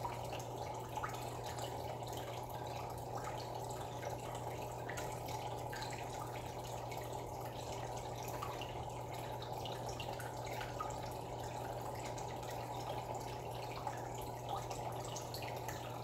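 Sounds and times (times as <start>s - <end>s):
low steady hum: 0.0s - 16.0s
small water splashes: 0.0s - 16.0s
trickling bubbling water: 0.0s - 16.0s.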